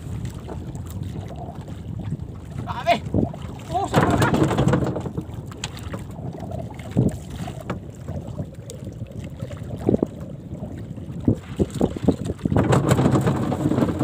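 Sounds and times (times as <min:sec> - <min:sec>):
sea water washing around canoe: 0:00.0 - 0:14.0
wind on microphone: 0:00.0 - 0:14.0.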